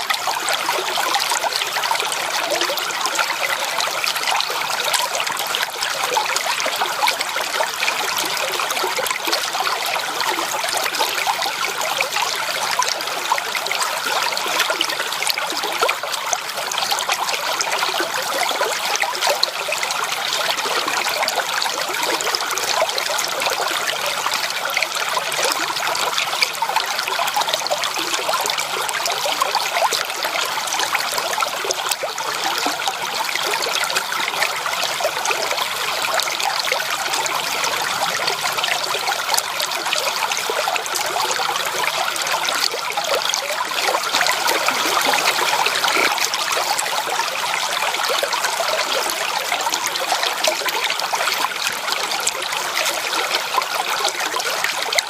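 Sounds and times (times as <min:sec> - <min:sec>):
stream water splashing: 0:00.0 - 0:55.0.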